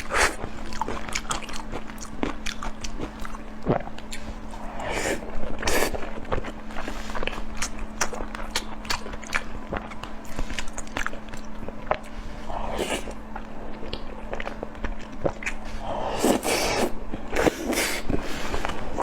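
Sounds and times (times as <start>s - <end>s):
person chewing and smacking: 0.0s - 12.2s, 12.8s - 19.0s.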